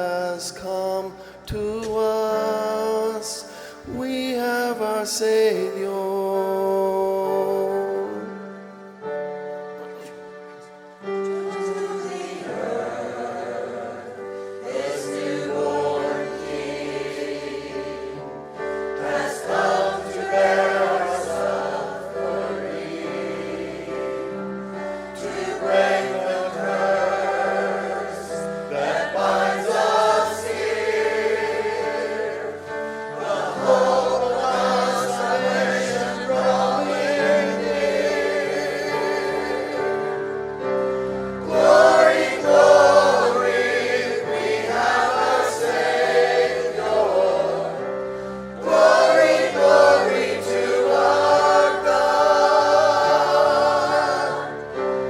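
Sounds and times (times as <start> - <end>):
church choir singing: 0.0 - 55.0
sustained musical accompaniment: 0.0 - 55.0.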